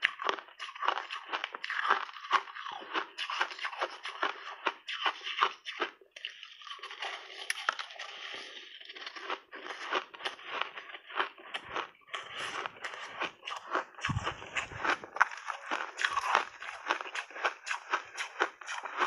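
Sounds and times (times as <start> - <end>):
crunchy ice chewing: 0.0 - 19.0.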